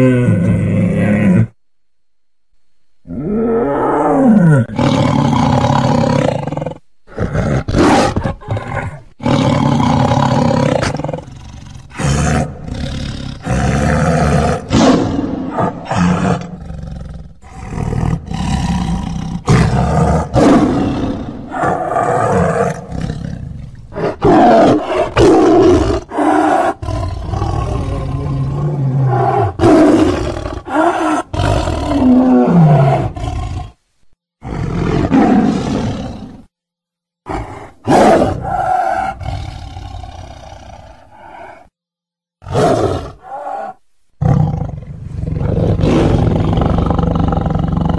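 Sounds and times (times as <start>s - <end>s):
tigers roaring: 3.1s - 33.8s, 34.4s - 36.5s, 37.3s - 41.7s, 42.4s - 47.9s.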